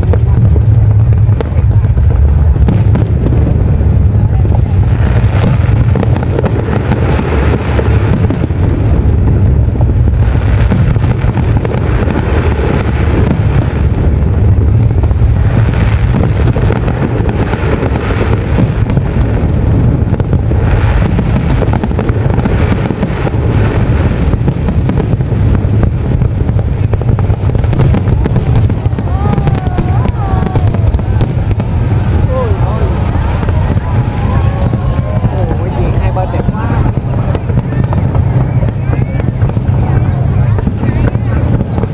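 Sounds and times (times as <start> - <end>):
fireworks booming: 0.0 - 41.9
fireworks crackling: 0.0 - 41.9.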